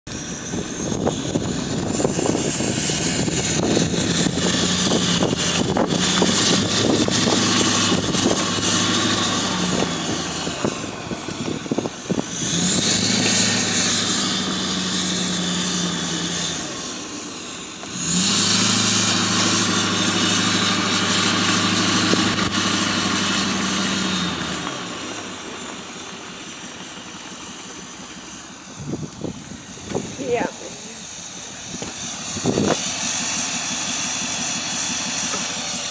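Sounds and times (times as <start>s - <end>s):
deep diesel truck exhaust: 0.1s - 35.9s.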